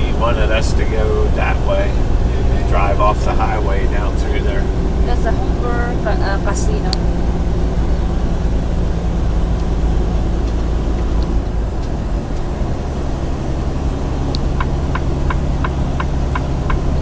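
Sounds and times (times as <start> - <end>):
truck engine droning: 0.0 - 17.0
turn signal ticking: 0.0 - 17.0.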